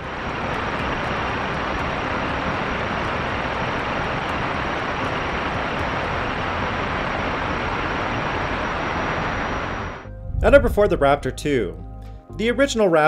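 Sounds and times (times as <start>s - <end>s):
rocket engine exhaust rush: 0.0s - 11.3s.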